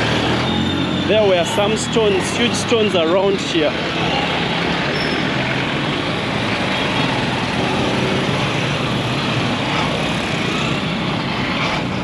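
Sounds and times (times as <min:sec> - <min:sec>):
traffic road noise: 0:00.0 - 0:12.0.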